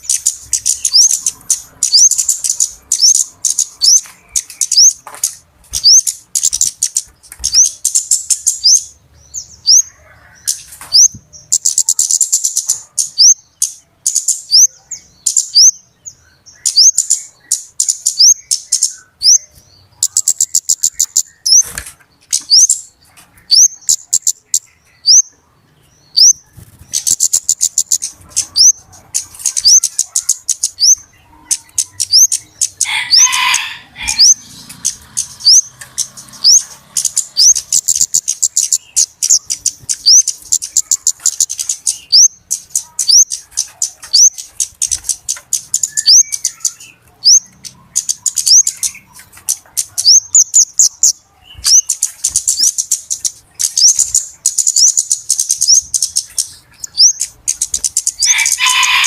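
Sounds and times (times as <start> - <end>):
birds ticking and chirping: 0.0 - 59.0.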